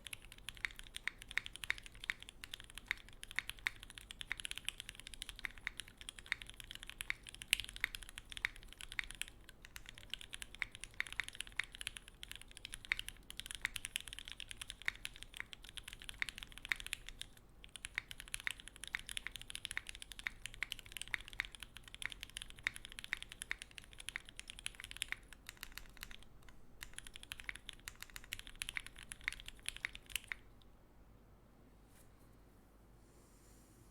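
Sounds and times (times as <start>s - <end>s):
mechanical keyboard typing: 0.0s - 30.6s.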